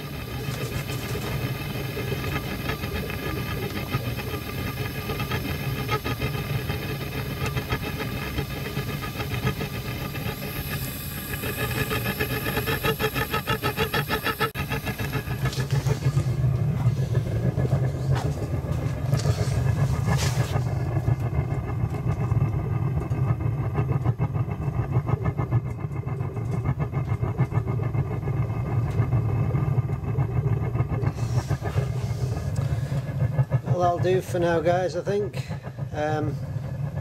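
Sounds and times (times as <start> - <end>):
gas burner rumbling: 0.0 - 37.0.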